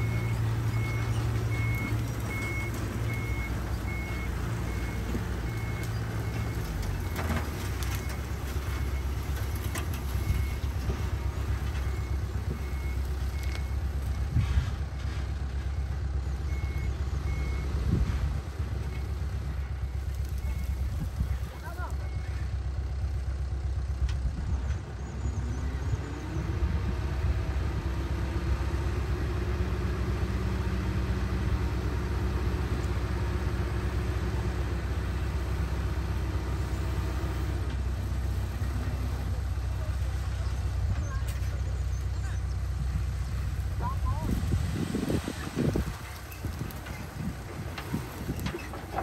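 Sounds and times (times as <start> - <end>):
dump truck engine revving: 0.0 - 49.0.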